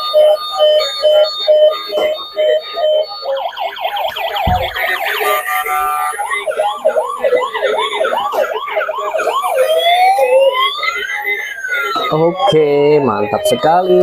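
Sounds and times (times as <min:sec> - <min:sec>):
electronic toy siren: 0:00.0 - 0:14.0.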